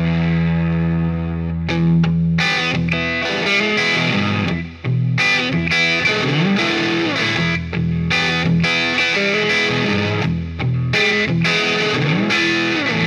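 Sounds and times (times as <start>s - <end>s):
electric guitar through amplifier: 0.0s - 13.0s.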